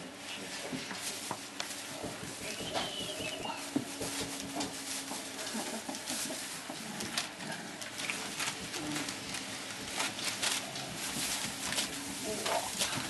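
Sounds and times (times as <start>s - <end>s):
scratching on newspaper: 0.3s - 13.0s.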